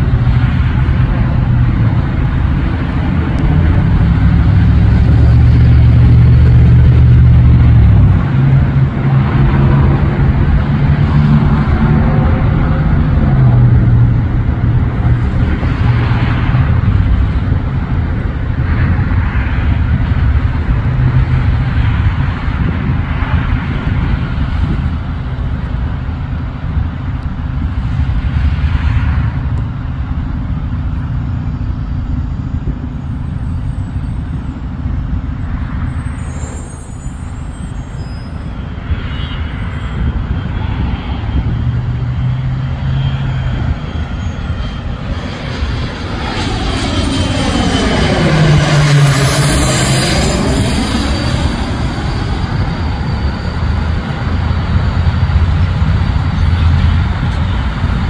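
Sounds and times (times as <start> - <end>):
jet passing overhead: 0.0 - 58.0
road traffic rumble: 0.0 - 58.0.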